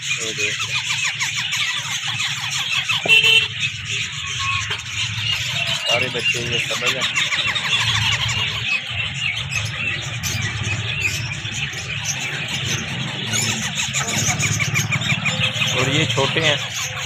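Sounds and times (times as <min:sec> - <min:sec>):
parakeet chicks squeaking: 0:00.0 - 0:17.0.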